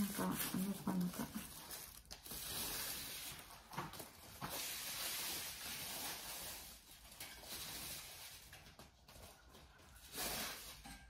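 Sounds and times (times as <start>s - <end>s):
plastic wrapping rustling: 0.0s - 11.0s.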